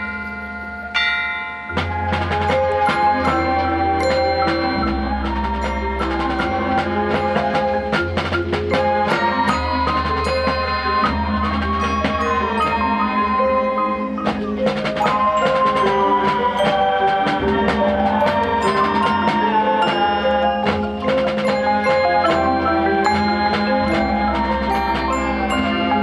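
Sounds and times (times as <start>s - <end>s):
mallet percussion rapid notes: 0.0s - 26.0s
marching band music: 0.0s - 26.0s.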